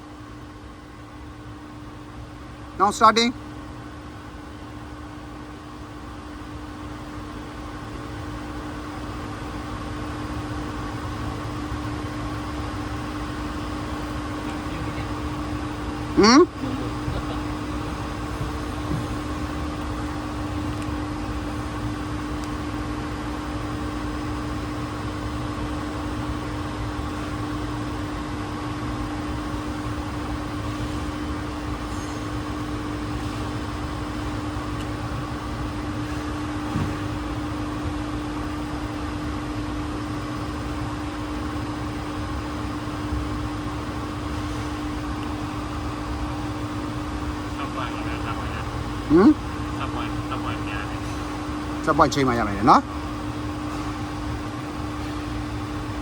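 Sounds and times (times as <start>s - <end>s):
heat pump machine hum: 0.0s - 56.0s.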